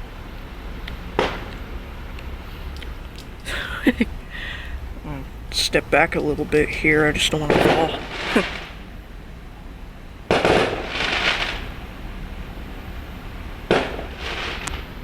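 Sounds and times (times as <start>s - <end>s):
firework crackling: 0.0s - 15.0s
firework bangs: 1.1s - 11.9s, 13.6s - 15.0s.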